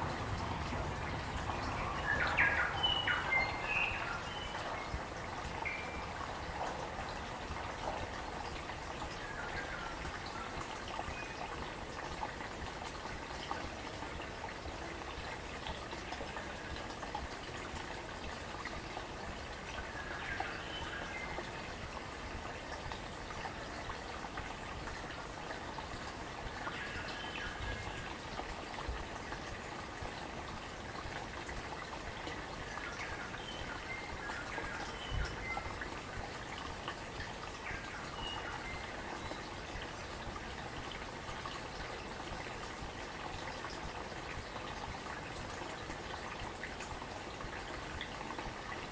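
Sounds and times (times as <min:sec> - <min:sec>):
stream gurgling over stones: 0:00.0 - 0:48.9.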